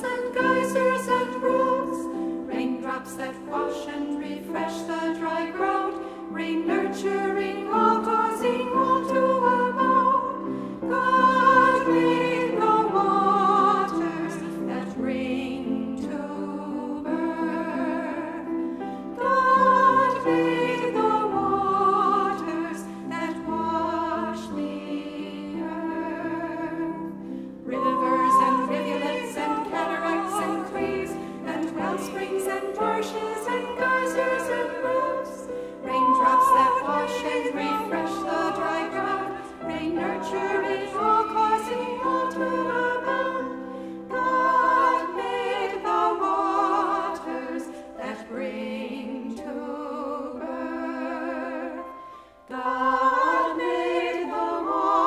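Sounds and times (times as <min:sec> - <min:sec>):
choir singing slow song: 0:00.0 - 0:55.0.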